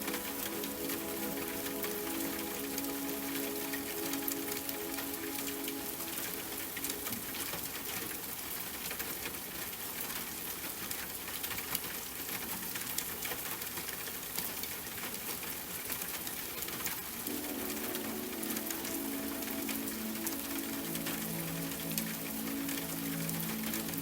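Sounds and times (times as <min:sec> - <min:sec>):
rain with drop hits: 0:00.0 - 0:24.0.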